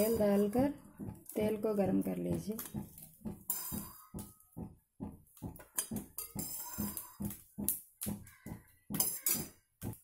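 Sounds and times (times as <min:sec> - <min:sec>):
oil crackling and popping: 0:00.0 - 0:10.0.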